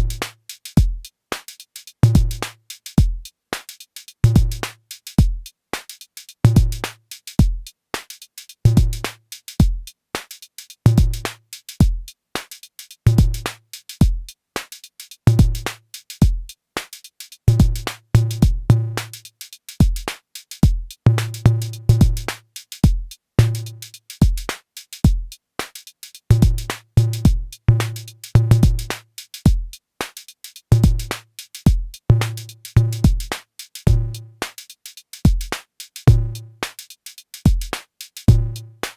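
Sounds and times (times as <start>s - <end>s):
hi-hat ticks: 0.0s - 38.9s.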